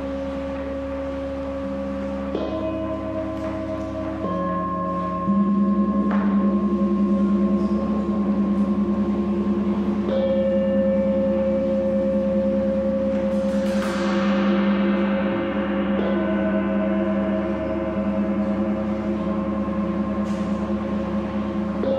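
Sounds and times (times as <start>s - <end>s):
large gong shimmering: 0.0s - 21.9s
singing bowls ringing: 0.0s - 21.9s.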